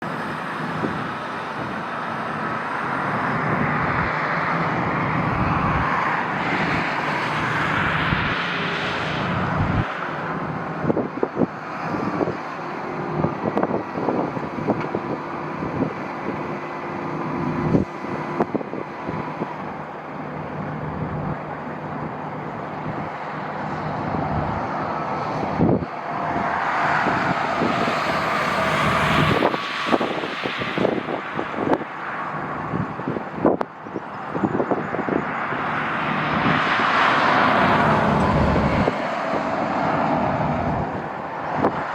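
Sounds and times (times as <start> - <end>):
jet engines passing: 0.0 - 41.9
wind buffeting microphone: 0.0 - 41.9.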